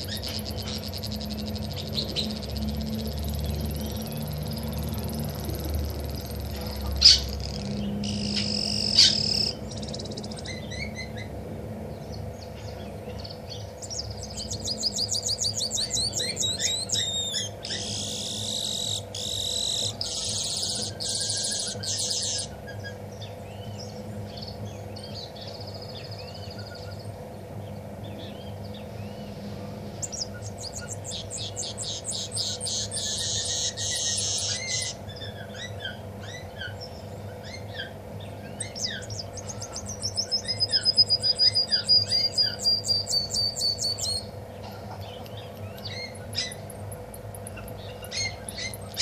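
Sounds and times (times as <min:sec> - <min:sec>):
songbird trilling and calling: 0:00.0 - 0:11.3, 0:12.0 - 0:29.4, 0:30.0 - 0:49.0.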